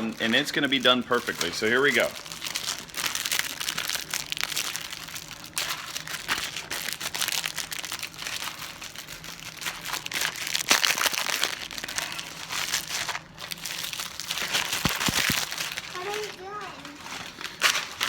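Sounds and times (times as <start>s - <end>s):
popcorn bag crinkling: 0.0s - 18.0s.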